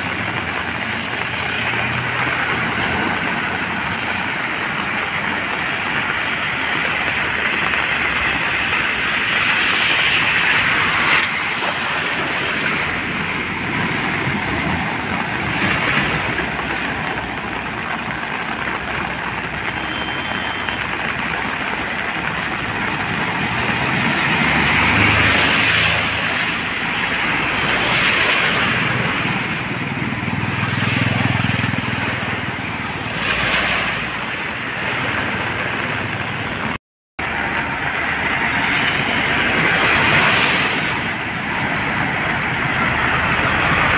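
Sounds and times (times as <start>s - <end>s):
heavy vehicle engine hum: 0.0s - 43.9s
vehicle engines running: 0.0s - 43.9s
water splashing under vehicles: 0.0s - 43.9s.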